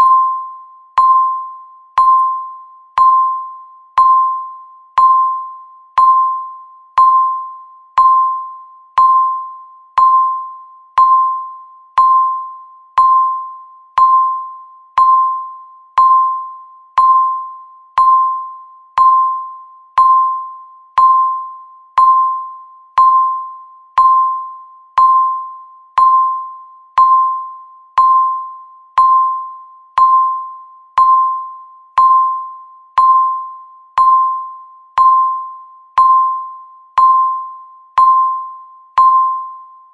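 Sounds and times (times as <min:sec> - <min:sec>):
countdown timer beeping: 0:01.0 - 0:39.7.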